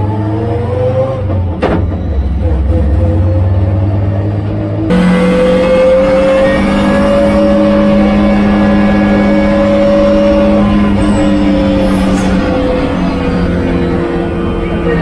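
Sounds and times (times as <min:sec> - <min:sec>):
race car engine at high revs: 0:02.6 - 0:15.0.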